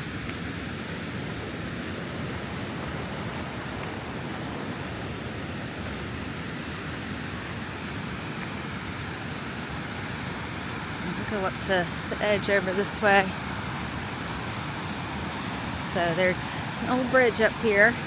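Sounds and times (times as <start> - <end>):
creek water rushing over rocks: 0.0 - 18.0.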